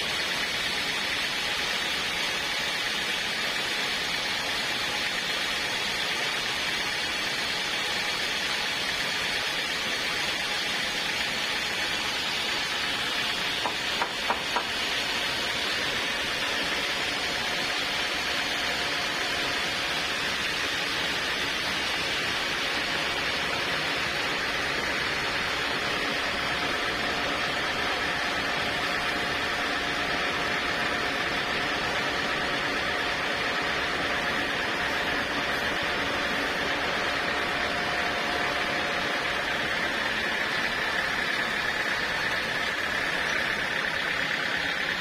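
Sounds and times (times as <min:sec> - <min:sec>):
sawmill running with hiss: 0:00.0 - 0:45.0.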